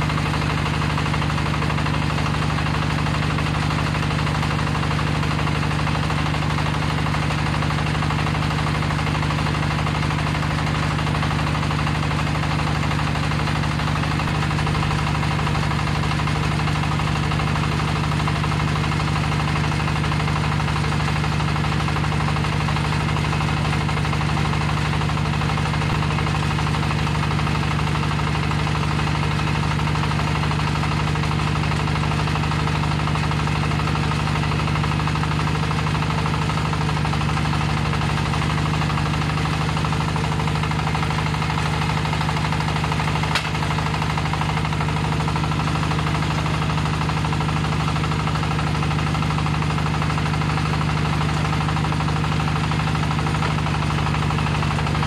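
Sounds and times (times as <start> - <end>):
diesel engine running steadily: 0.0 - 55.0.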